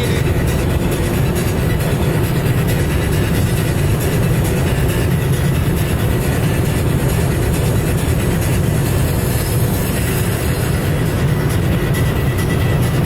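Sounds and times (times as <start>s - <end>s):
car engine rumble at high speed: 0.0s - 13.0s.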